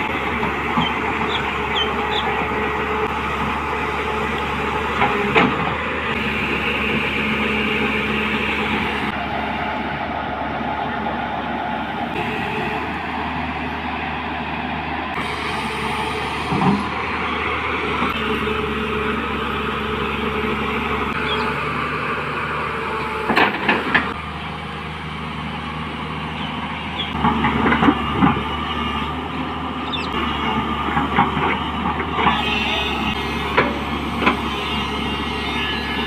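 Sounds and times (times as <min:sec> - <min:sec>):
diesel machinery running: 0:00.0 - 0:36.0.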